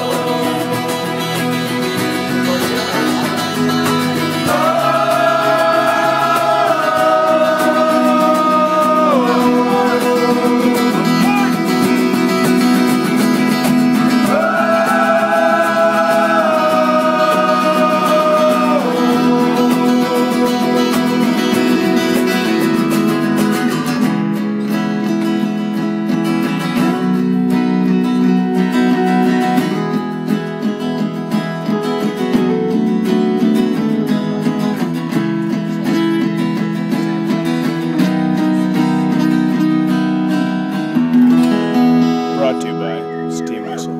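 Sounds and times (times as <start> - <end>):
strummed acoustic guitars: 0.0 - 43.9.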